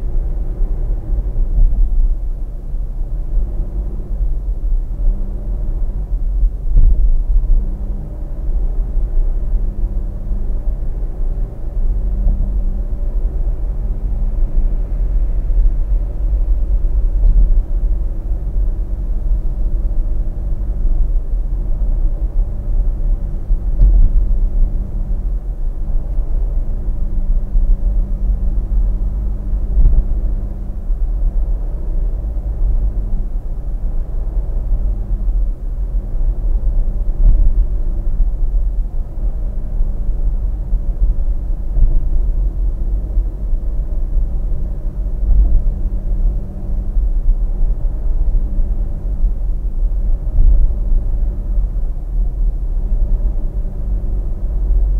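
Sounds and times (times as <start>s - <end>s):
car road rumble: 0.0s - 54.9s
faint low engine hum: 0.0s - 54.9s.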